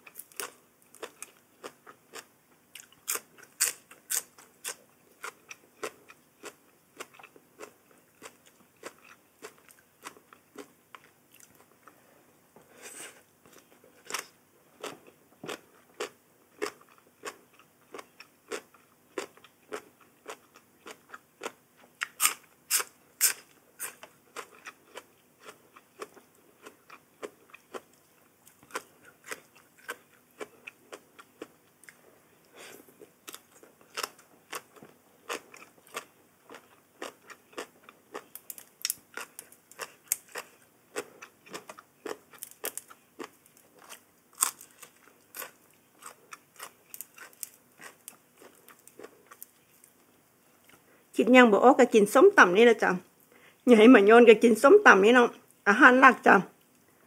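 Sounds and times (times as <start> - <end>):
chewing and crunching food: 0.0 - 12.0, 13.4 - 50.9.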